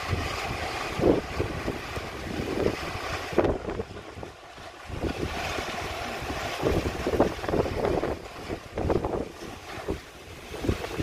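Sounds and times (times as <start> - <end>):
gusting wind buffeting microphone: 0.0 - 11.0.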